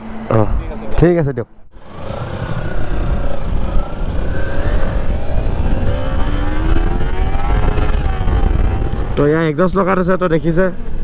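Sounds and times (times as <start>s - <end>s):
motorcycle engine accelerating: 1.7s - 11.0s
wind rumble on microphone: 1.7s - 11.0s.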